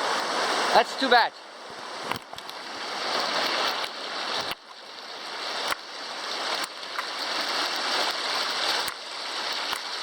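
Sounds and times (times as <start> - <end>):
creek rushing: 0.0 - 10.0.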